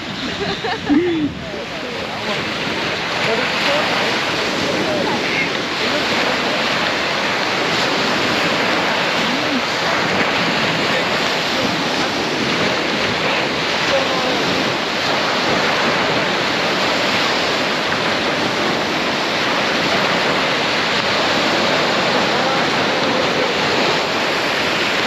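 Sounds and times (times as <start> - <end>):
faint distant voices: 0.0 - 25.0
surf and moving water: 0.0 - 25.0.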